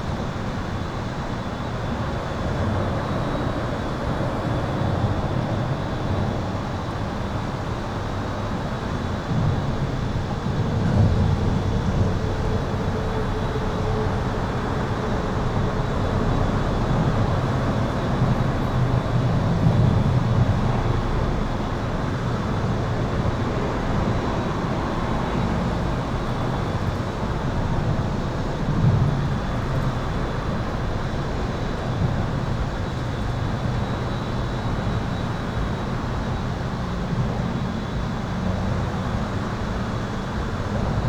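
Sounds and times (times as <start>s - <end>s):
highway traffic rumble: 0.0s - 41.0s.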